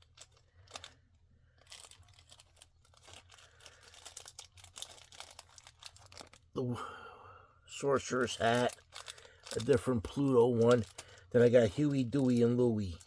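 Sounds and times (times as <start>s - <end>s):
plastic packaging crinkling: 0.0s - 6.5s, 8.0s - 13.0s.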